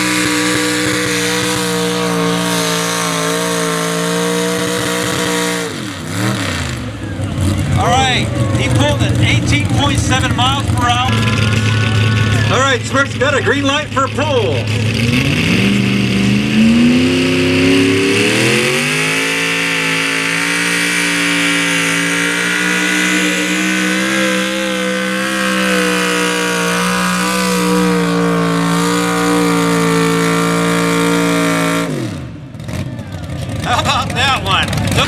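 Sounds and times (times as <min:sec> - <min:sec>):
truck engine at full throttle: 0:00.0 - 0:35.0.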